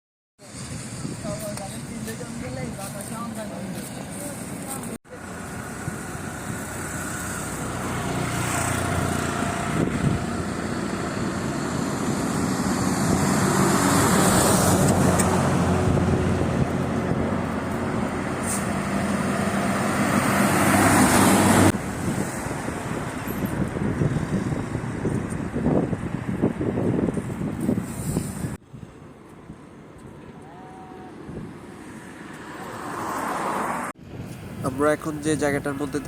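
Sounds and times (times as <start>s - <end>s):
vehicles passing: 0.4s - 36.0s.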